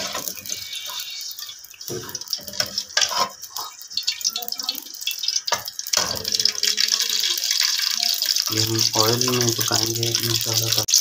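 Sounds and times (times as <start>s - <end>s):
oil trickling into a pan: 0.0s - 11.0s.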